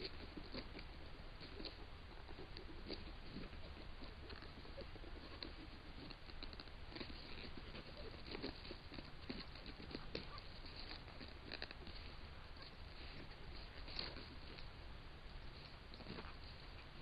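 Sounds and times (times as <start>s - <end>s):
claws scratching a log: 0.0s - 17.0s
steady low hiss: 0.0s - 17.0s.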